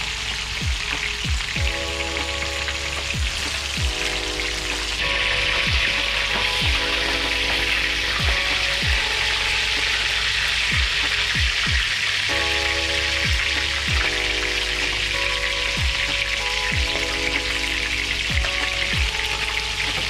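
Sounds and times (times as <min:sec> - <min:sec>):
background music with beat: 0:00.0 - 0:20.0
fish frying in hot oil: 0:00.0 - 0:20.0.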